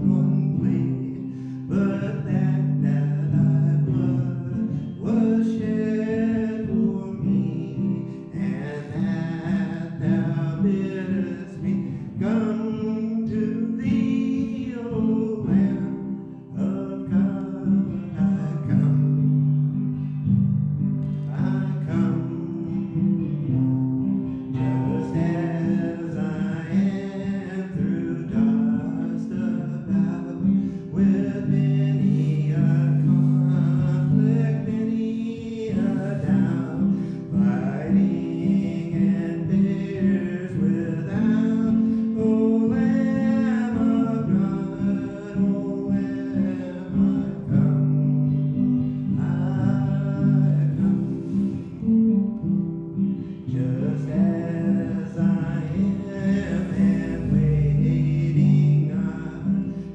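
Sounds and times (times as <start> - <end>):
person singing worship song: 0.0 - 19.6, 21.1 - 23.6, 24.5 - 52.0, 53.2 - 59.9
acoustic guitar: 0.0 - 59.9.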